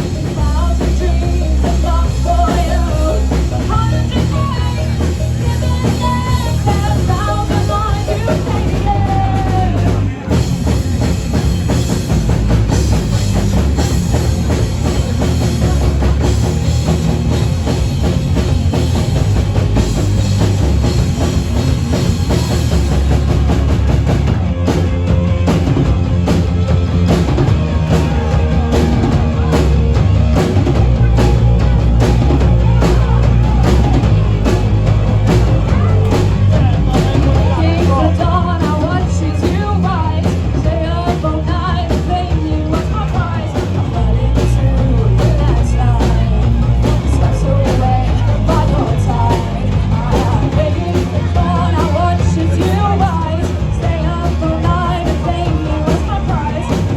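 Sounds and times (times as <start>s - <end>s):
live rock band playing loudly: 0.0s - 56.9s.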